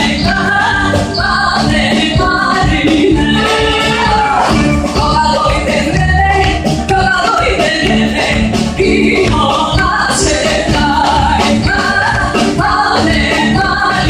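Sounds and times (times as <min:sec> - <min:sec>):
live band with singer: 0:00.0 - 0:14.0.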